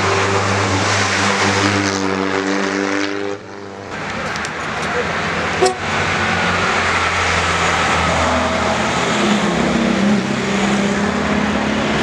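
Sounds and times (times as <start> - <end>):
car engines driving past: 0.0 - 12.0.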